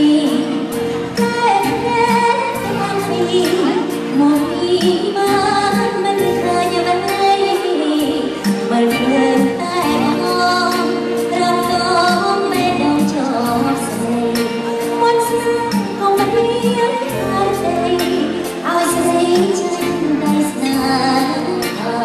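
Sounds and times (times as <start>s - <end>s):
live backing music with beat: 0.0s - 22.0s
woman singing into microphone: 0.0s - 22.0s.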